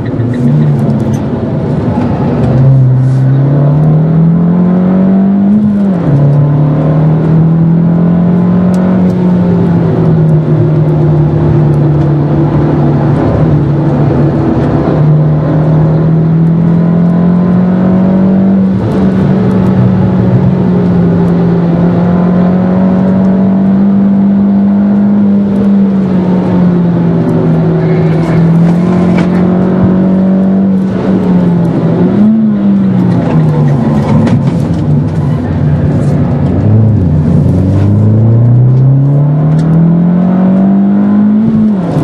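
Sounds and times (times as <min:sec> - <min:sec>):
car engine at high revs: 0:00.0 - 0:42.0.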